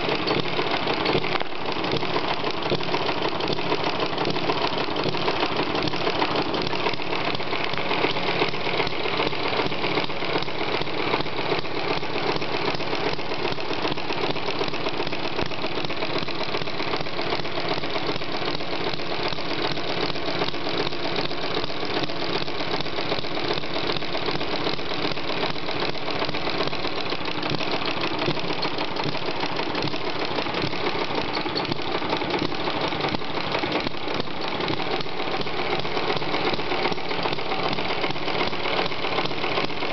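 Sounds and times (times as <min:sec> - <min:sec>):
model engine mechanical clatter: 0:00.0 - 0:39.9.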